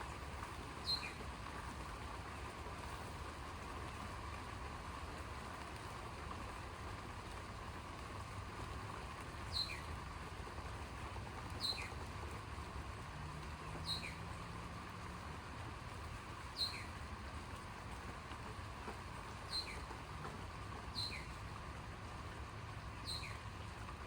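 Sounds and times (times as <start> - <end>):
background hiss and rumble: 0.0 - 24.0.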